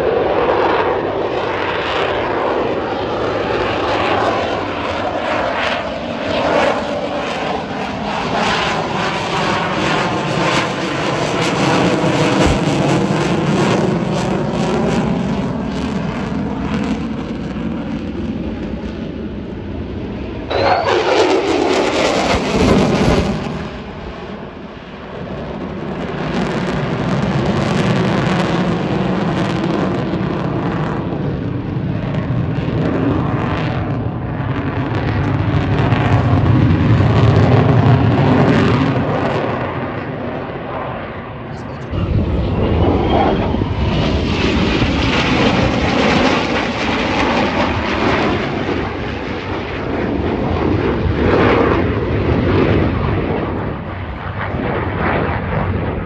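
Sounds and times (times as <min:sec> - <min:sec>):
aircraft flying overhead: 0:00.0 - 0:56.0.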